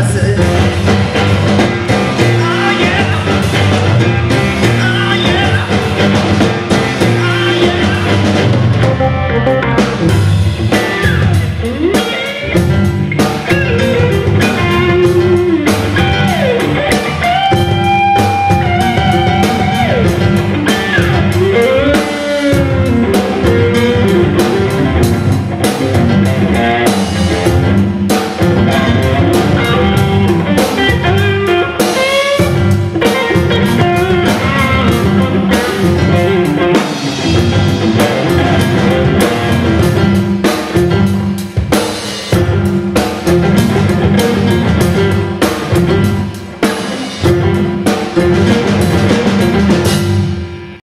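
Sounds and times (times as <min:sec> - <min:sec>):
bass guitar: 0:00.0 - 0:50.8
drum kit: 0:00.0 - 0:50.8
electric guitar solo: 0:00.4 - 0:41.3, 0:42.3 - 0:50.8.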